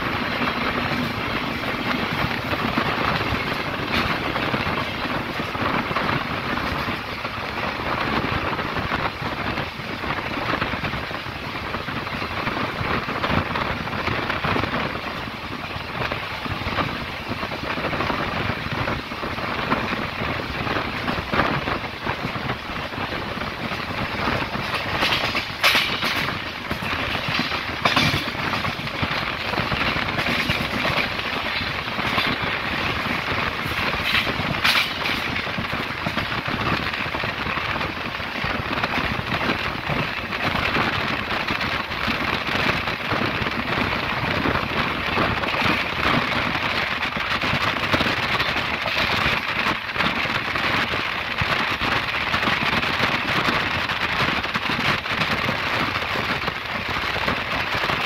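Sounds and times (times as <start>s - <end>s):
train wheels and air rushing: 0.0s - 58.0s
wheels clacking over rail joints: 0.0s - 58.0s.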